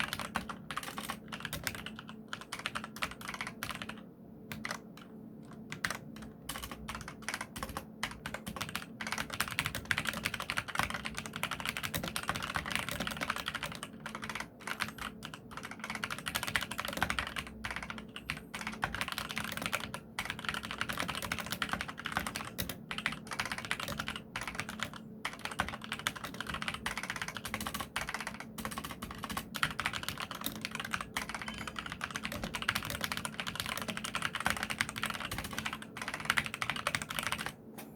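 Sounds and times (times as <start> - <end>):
fast typing on mechanical keyboard: 0.0 - 37.6.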